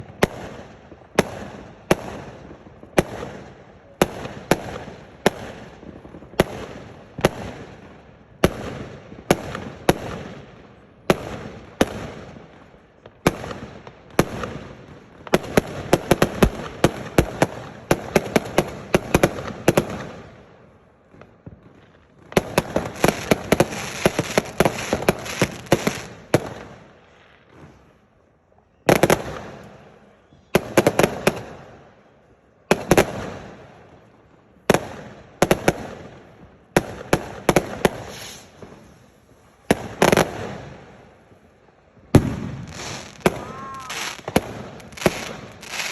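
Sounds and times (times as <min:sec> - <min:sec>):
firework bangs and crackling: 0:00.0 - 0:45.9.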